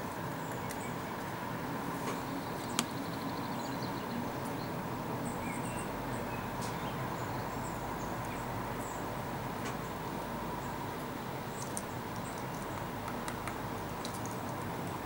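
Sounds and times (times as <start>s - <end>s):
small birds chirping: 0.2s - 1.4s, 2.0s - 14.6s.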